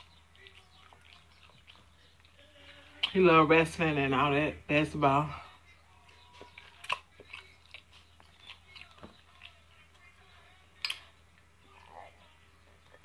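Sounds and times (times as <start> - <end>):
person chewing: 0.0 - 3.2, 5.5 - 13.0.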